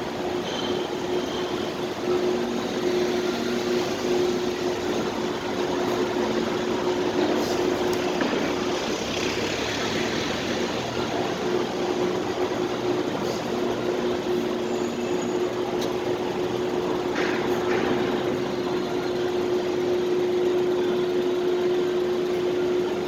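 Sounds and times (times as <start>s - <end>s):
machinery and traffic noise: 0.0s - 23.0s.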